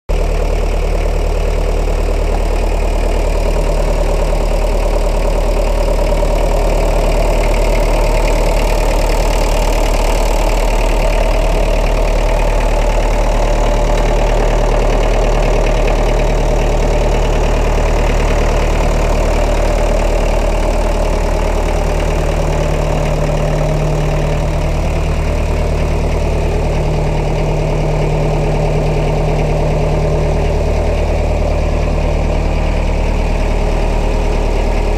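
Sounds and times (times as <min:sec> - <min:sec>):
diesel tractor engine idling: 0:00.1 - 0:34.9.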